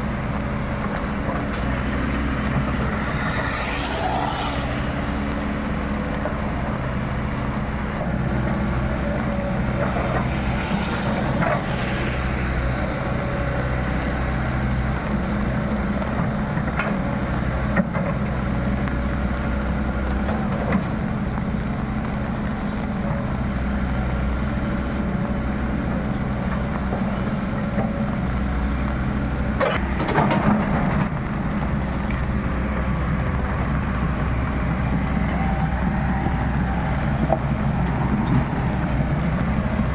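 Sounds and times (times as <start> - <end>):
excavator engine running: 0.0 - 3.2, 3.9 - 39.9.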